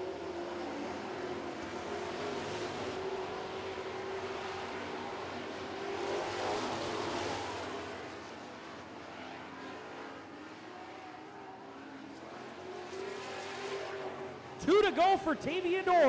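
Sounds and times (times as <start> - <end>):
race truck engines running hard: 0.0 - 16.0.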